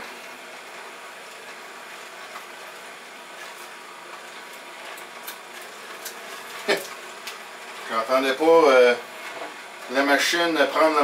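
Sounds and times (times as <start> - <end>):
juicer running: 0.0 - 11.0.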